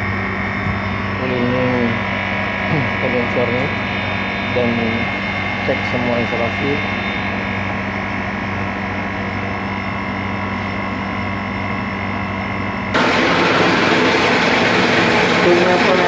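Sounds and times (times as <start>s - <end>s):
compressor unit humming: 0.0s - 16.0s.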